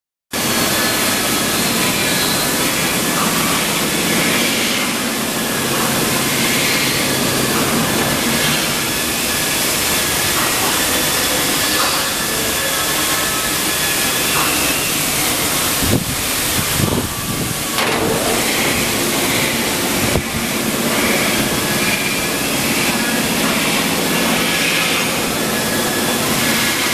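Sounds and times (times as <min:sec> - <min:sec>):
faint machine whine: 0:00.4 - 0:26.9
sanding machine rushing noise: 0:00.4 - 0:26.9.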